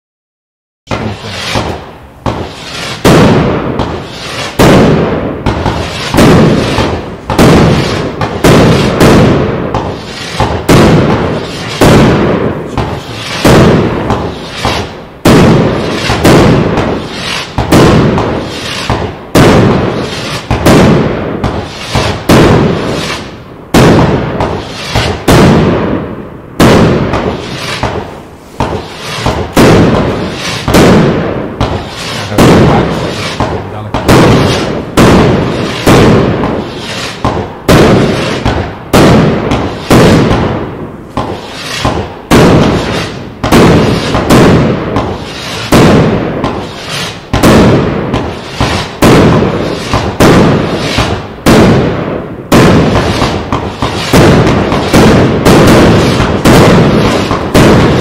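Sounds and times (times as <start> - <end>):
firework bangs: 0.9 - 58.0.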